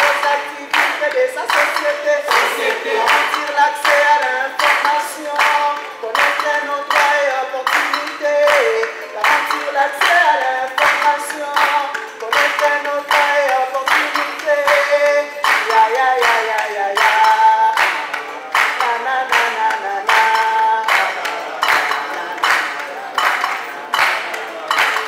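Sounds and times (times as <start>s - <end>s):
group of people singing: 0.0s - 25.0s
people clapping in rhythm: 0.0s - 25.0s.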